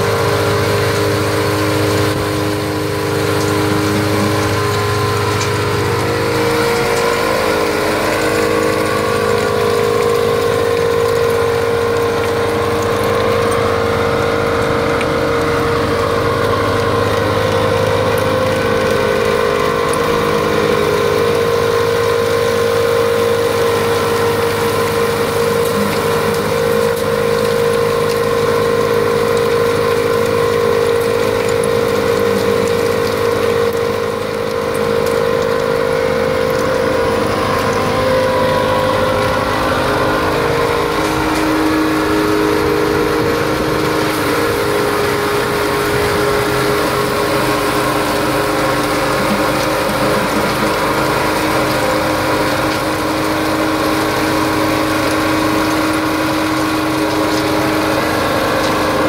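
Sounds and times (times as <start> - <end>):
excavator engine working: 0.0 - 59.0
soil screener engine running: 0.0 - 59.0.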